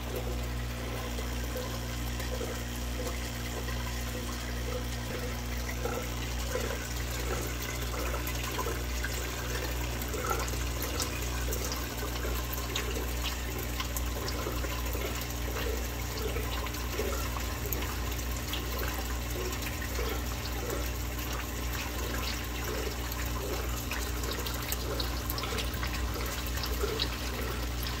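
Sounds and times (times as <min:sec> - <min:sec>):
aquarium water bubbling: 0:00.0 - 0:28.0
low electrical hum: 0:00.0 - 0:28.0.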